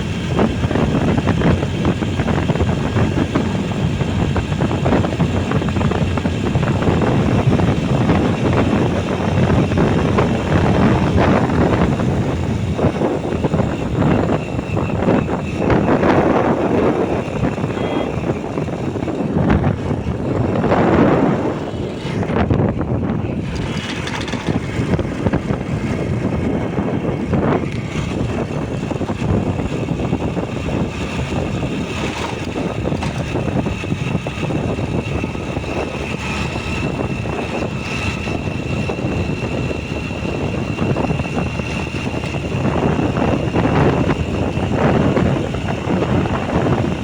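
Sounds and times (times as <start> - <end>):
motorcycle running: 0.0 - 47.0
wind buffeting microphone: 0.0 - 47.0.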